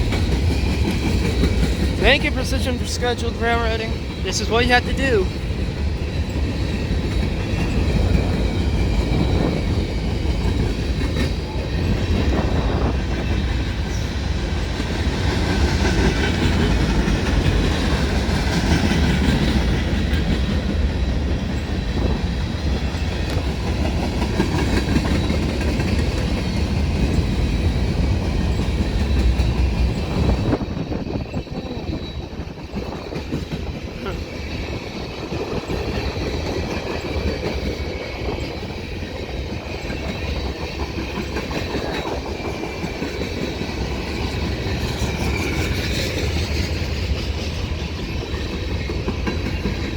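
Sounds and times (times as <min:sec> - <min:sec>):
wheels clicking over rail joints: 0:00.0 - 0:02.1, 0:05.3 - 0:31.6, 0:32.4 - 0:49.9
freight train rumbling: 0:00.0 - 0:49.9.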